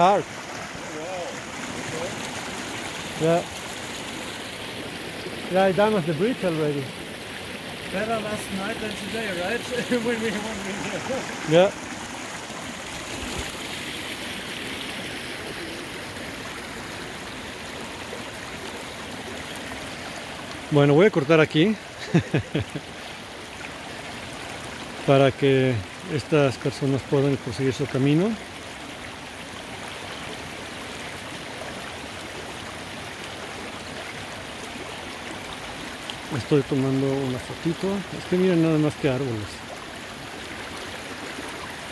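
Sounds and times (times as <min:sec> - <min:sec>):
stream rushing: 0:00.0 - 0:41.9.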